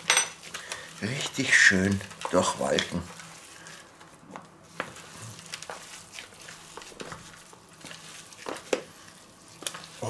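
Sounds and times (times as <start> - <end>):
wet squelching of kneaded meat: 0.4 - 10.0.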